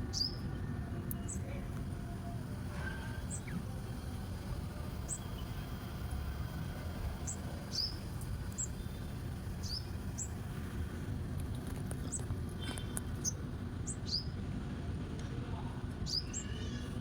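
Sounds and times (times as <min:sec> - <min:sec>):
small birds chirping: 0:00.0 - 0:14.4, 0:16.0 - 0:16.9
low background rumble: 0:00.0 - 0:17.0.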